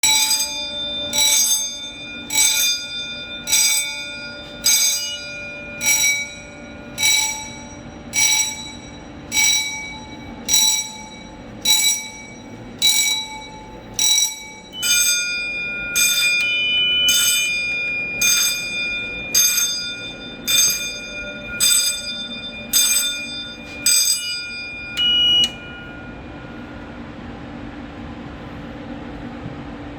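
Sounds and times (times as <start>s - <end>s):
alarm sounder ringing in pulses: 0.0s - 29.0s
low steady hum: 0.0s - 29.9s.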